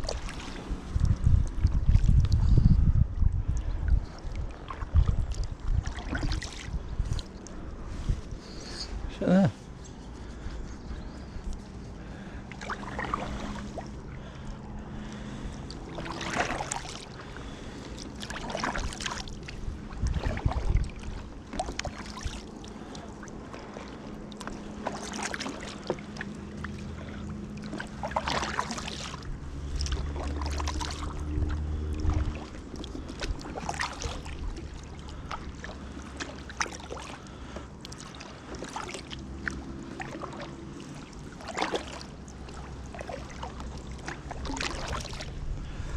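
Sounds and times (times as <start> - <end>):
paddle splashing in water: 0.0 - 2.4, 3.4 - 8.6, 11.4 - 45.9
steady low hum: 0.0 - 45.9.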